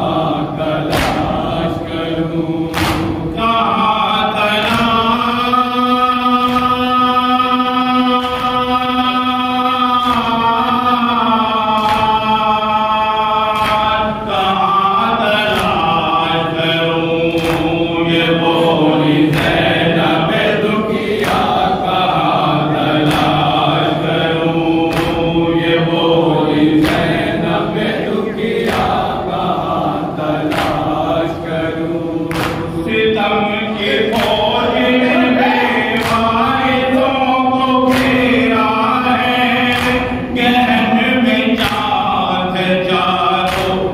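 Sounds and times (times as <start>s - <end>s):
men chanting: 0.0s - 43.9s.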